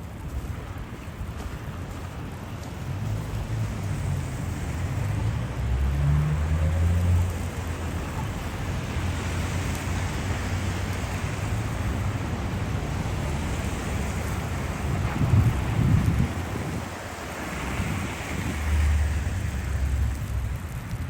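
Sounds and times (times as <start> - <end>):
road traffic: 0.0 - 21.0
wind noise: 0.0 - 21.0.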